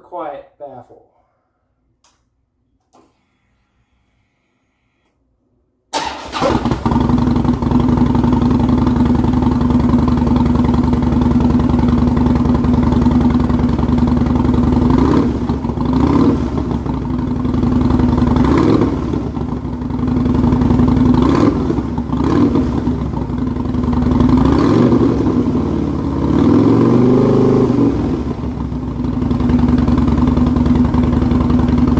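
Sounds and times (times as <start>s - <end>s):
motorcycle engine idling and revving: 6.1s - 31.9s.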